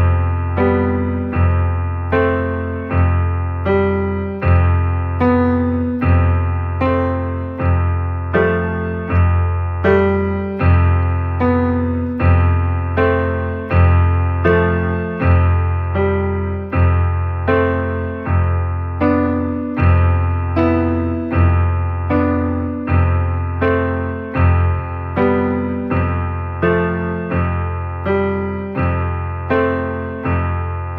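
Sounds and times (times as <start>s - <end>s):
soft piano chords: 0.0s - 30.9s.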